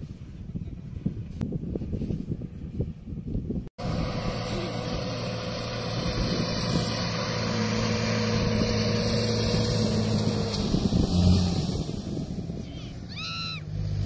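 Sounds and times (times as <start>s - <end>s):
wind noise on microphone: 0.0s - 4.3s, 5.8s - 13.1s
vehicle engine humming: 0.2s - 14.0s.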